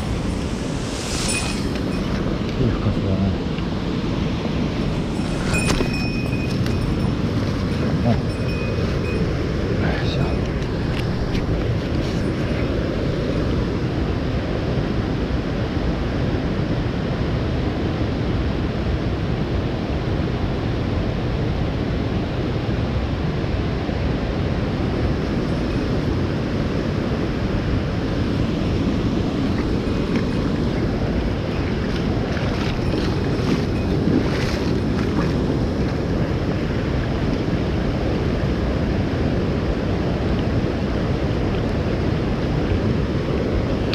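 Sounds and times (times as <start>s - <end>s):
mountain stream rushing: 0.0s - 16.2s, 22.8s - 43.9s.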